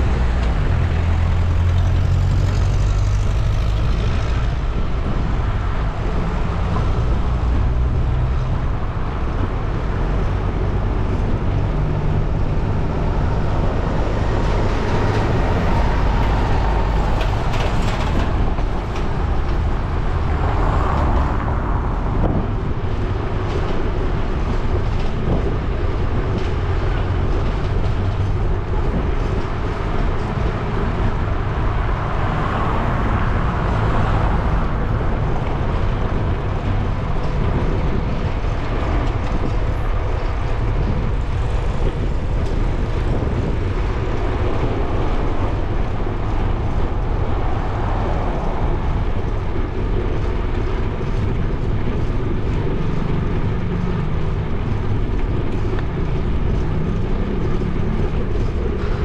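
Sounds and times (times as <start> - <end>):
bicycle ride rumble: 0.0 - 59.0
motor traffic passing: 0.0 - 59.0
wind on microphone: 0.0 - 59.0.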